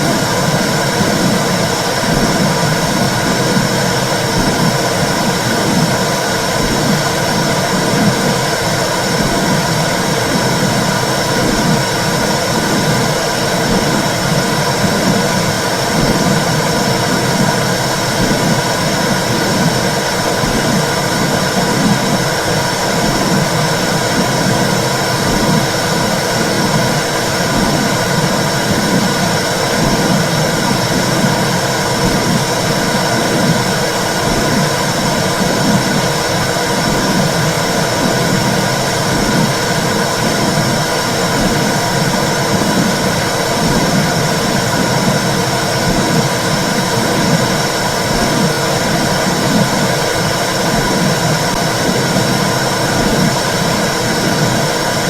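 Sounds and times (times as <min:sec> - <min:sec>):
low rhythmic pulsing: 0:00.0 - 0:55.0
steady whooshing noise: 0:00.0 - 0:55.0.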